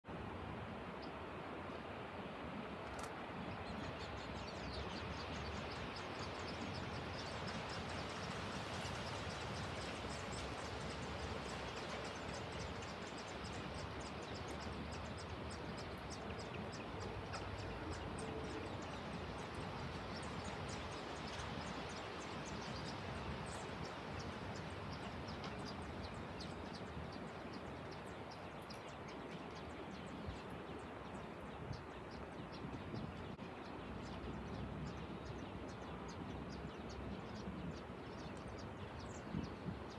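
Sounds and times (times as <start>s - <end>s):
background hiss: 0.1s - 33.1s
nestling birds peeping: 2.9s - 39.9s.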